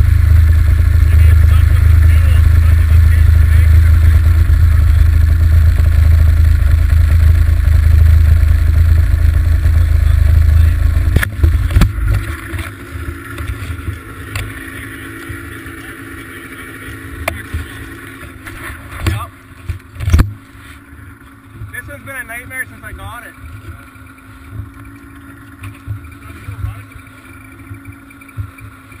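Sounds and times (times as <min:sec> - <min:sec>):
snowmobile engine running: 0:00.0 - 0:29.0.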